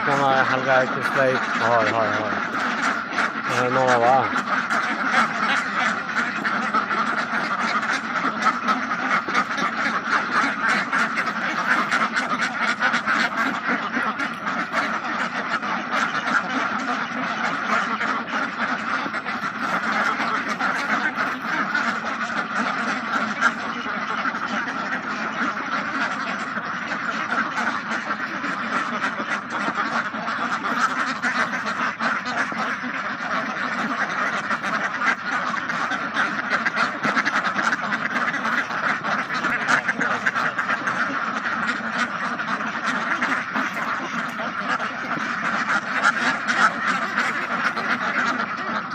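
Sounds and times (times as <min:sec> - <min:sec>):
flock of ducks quacking: 0:00.0 - 0:48.9.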